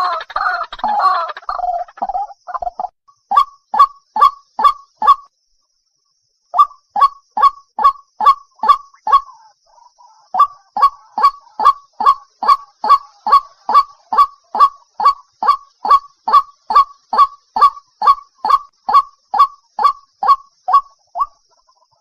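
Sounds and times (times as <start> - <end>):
waterhen calling: 0.0 - 5.2, 6.6 - 22.0.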